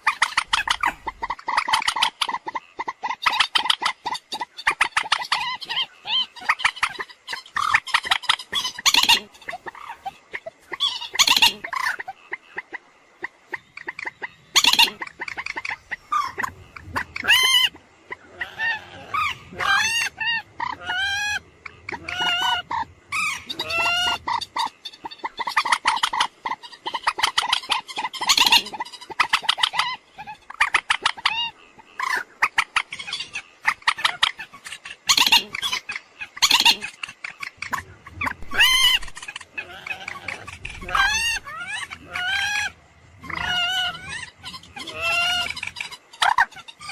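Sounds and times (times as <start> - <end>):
moorhen calling: 0.0 - 46.9.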